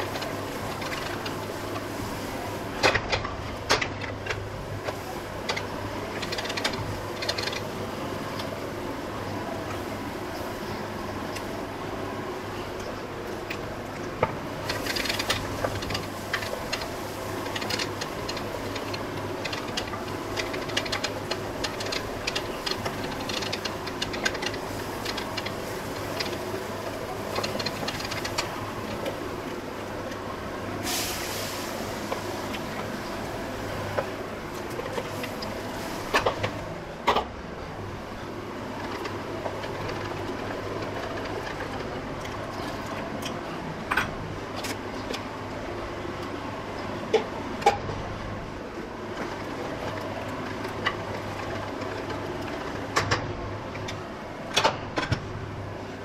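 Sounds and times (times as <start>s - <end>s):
masala frying in oil: 0.0s - 54.5s.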